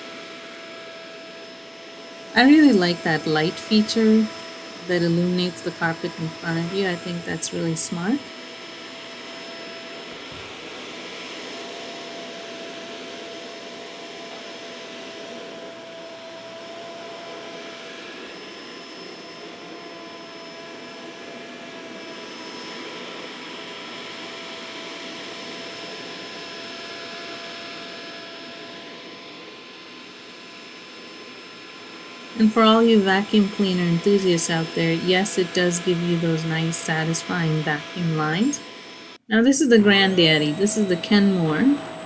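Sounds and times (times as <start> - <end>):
vacuum cleaner motor whine: 0.0 - 42.0.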